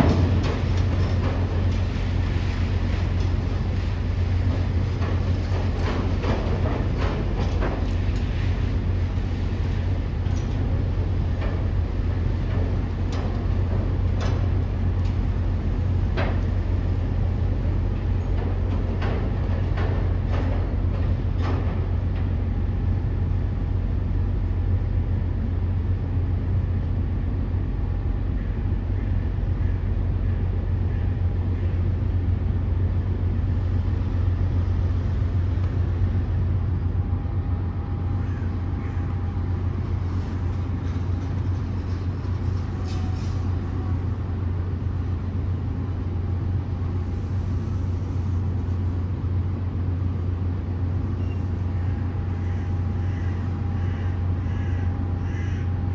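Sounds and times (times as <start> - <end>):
heavy engine humming: 0.0 - 55.9.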